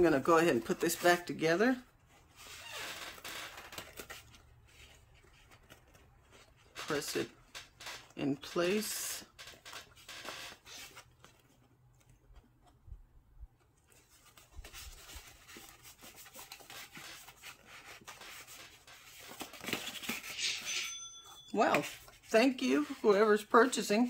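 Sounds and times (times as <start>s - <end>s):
cardstock paper rustling: 0.0s - 12.8s, 13.6s - 20.7s.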